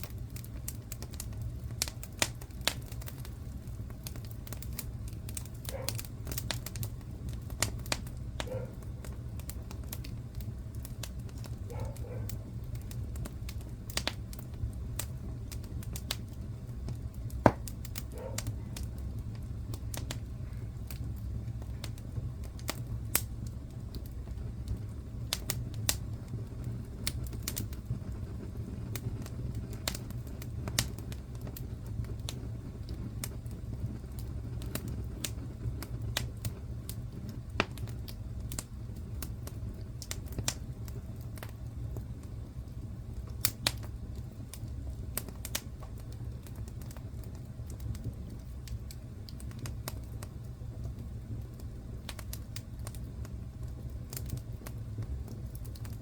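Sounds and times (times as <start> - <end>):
low rumble of fire: 0.0 - 56.0
wood fire crackling and popping: 0.0 - 56.0.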